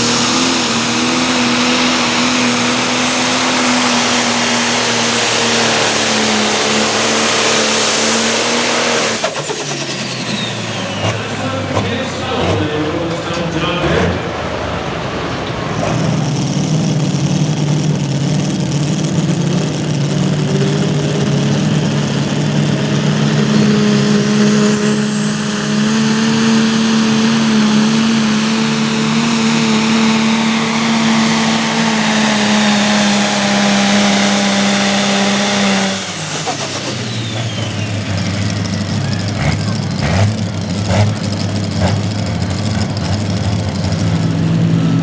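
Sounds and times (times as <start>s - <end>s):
diesel engine at full throttle: 0.0s - 45.0s.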